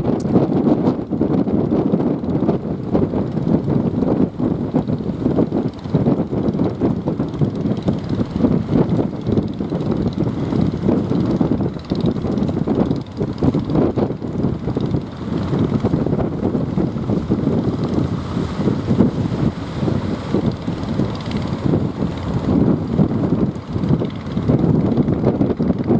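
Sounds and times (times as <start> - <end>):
strong wind buffeting microphone: 0.0 - 25.9.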